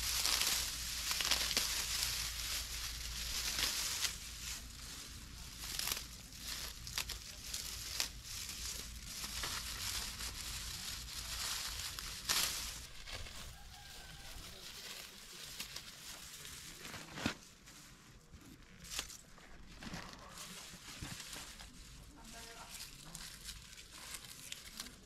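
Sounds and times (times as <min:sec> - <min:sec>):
soft rustling and crinkling: 0:00.0 - 0:25.0.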